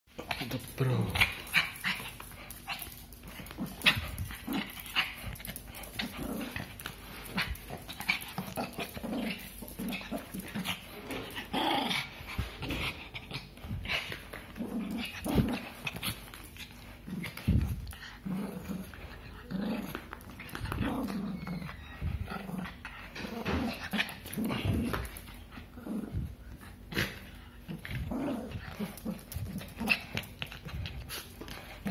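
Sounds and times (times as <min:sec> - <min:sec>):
small dog growling: 0:00.2 - 0:31.9.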